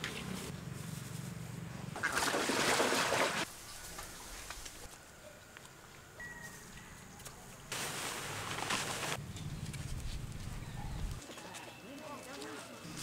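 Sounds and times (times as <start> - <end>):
outdoor background: 0.0 - 13.0.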